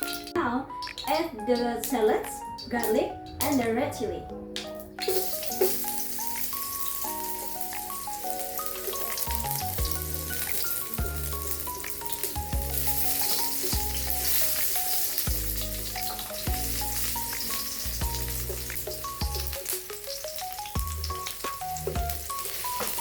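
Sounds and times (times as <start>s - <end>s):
food sizzling in hot oil: 0.0s - 3.6s, 4.6s - 23.0s
background music: 0.0s - 23.0s.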